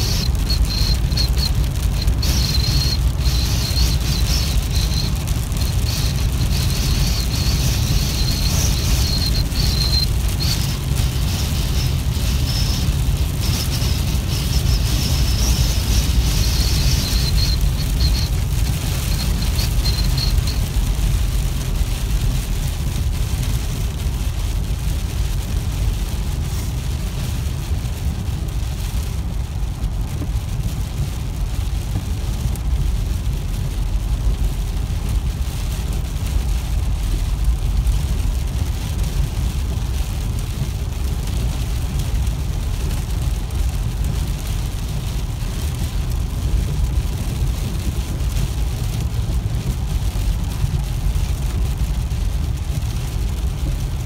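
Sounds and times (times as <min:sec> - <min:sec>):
car road and wind rumble: 0:00.0 - 0:54.0
rain pattering on car: 0:00.0 - 0:54.0.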